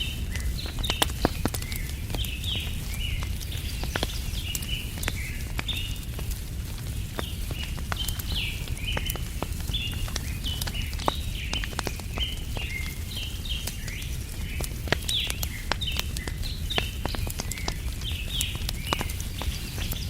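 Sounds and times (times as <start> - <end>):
small birds chirping: 0.0 - 20.0
wood fire crackling: 0.0 - 20.0.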